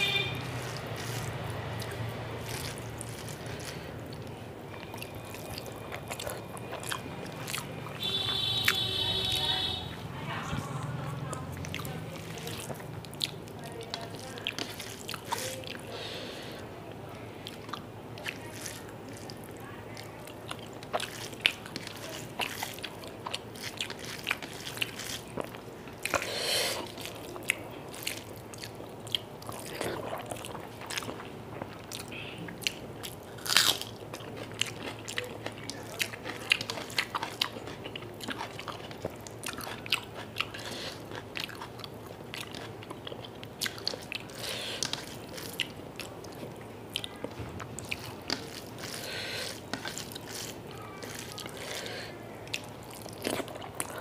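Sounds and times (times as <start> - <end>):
person chewing: 0.0 - 16.6, 17.4 - 54.0.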